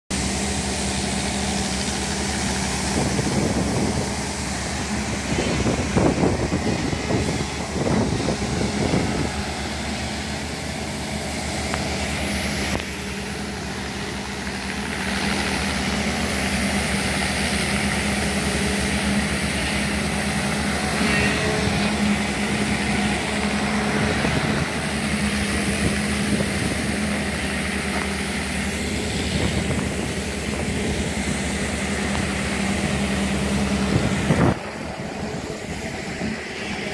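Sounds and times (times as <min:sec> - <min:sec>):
heavy engines humming: 0:00.1 - 0:36.9
water gushing and splashing: 0:00.1 - 0:36.9.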